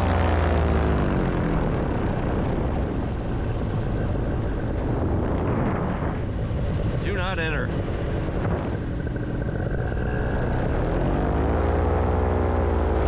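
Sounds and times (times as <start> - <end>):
paramotor engine and propeller: 0.0 - 13.0.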